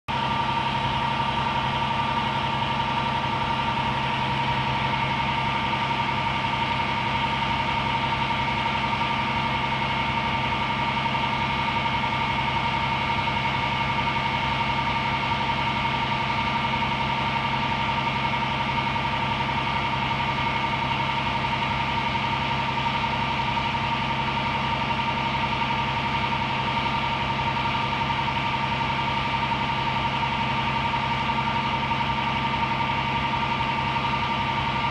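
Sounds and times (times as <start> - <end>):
diesel truck engine running: 0.1 - 34.9.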